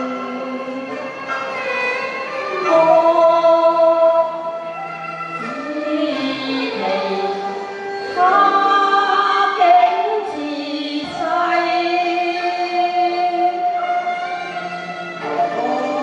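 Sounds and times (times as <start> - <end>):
woman singing opera: 0.0 - 1.3, 2.3 - 14.5, 15.2 - 16.0
bowed strings: 0.0 - 16.0.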